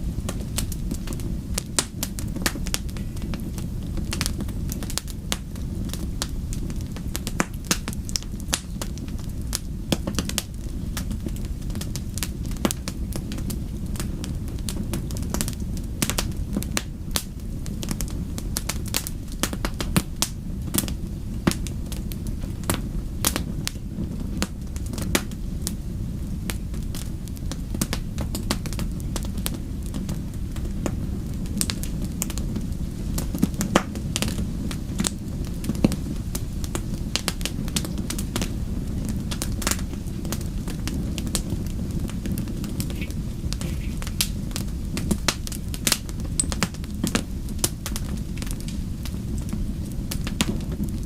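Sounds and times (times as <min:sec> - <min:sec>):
low rumble of flames: 0:00.0 - 0:51.0
wood fire crackling and popping: 0:00.0 - 0:51.0.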